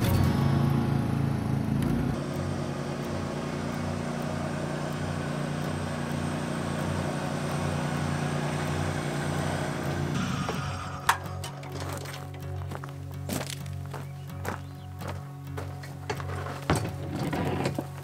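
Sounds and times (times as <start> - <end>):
riding lawn mower engine idling: 0.0 - 18.0.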